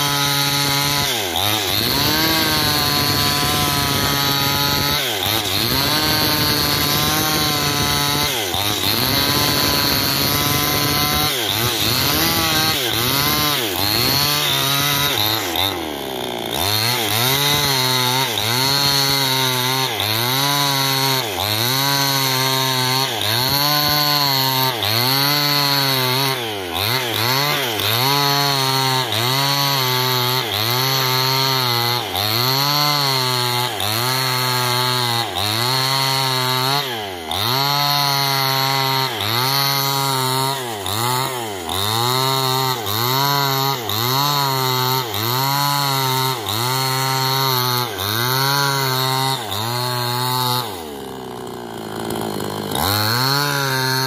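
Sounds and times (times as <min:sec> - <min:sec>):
chainsaw cutting under load: 0:00.0 - 0:54.0.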